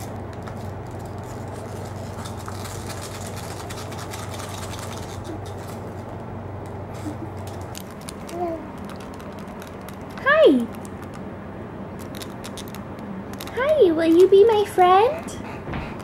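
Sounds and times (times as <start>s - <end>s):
air conditioner hum: 0.0s - 16.0s.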